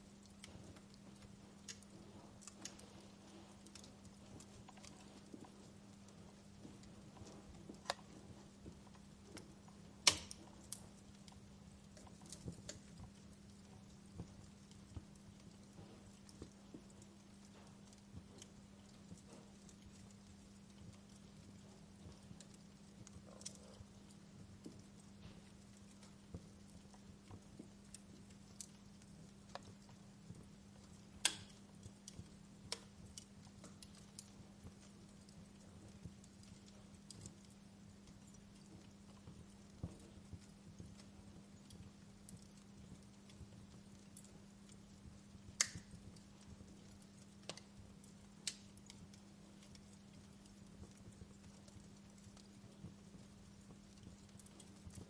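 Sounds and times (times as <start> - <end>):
faint steady hum: 0.0 - 55.0
fireplace fire crackling: 0.0 - 55.0.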